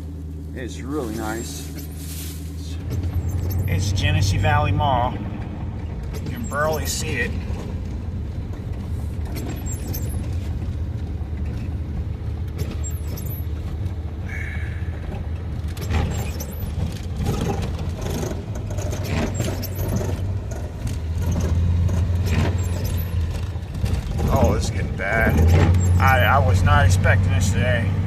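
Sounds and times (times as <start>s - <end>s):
van engine and road noise: 0.0s - 28.0s.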